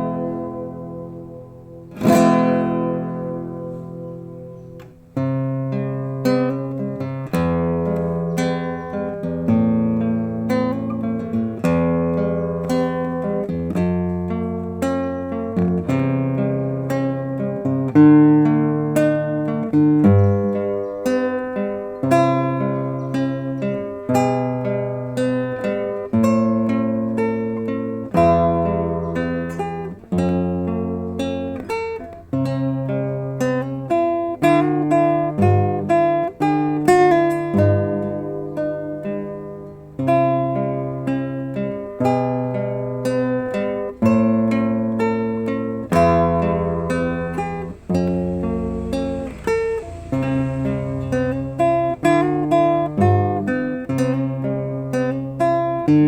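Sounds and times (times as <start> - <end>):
acoustic guitar ballad: 0.0 - 56.0.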